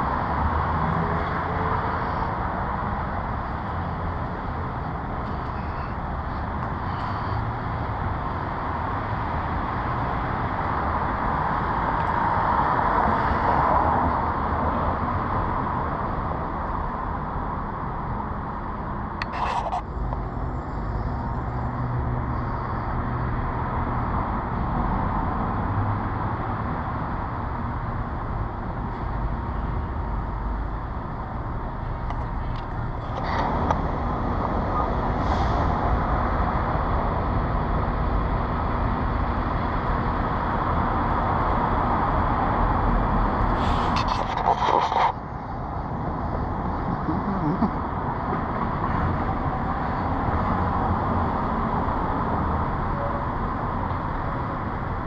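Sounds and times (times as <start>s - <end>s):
passing cars: 0.0s - 55.0s
vehicle engine hum: 0.0s - 55.0s.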